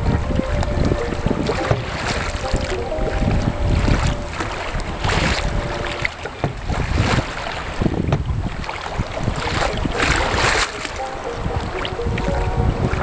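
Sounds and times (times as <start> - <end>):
water splashing: 0.0 - 13.0
water washing against hull: 0.0 - 13.0
wind buffeting microphone: 0.0 - 13.0.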